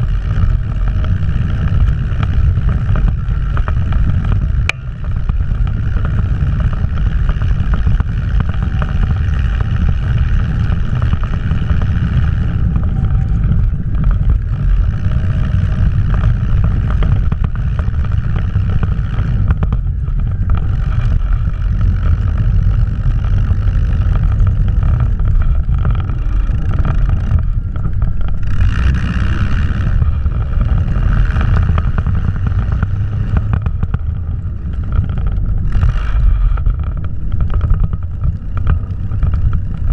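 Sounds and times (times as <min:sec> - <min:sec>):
snowcat engine low drone: 0:00.0 - 0:39.9.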